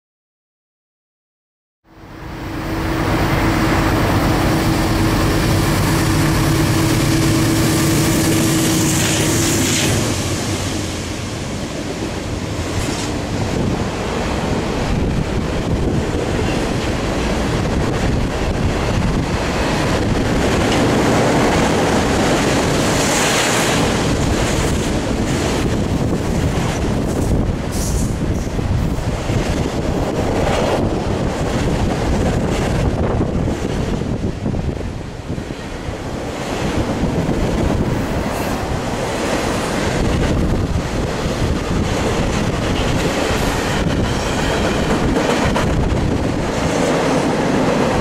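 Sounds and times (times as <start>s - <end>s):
locomotive drone: 1.9s - 48.0s.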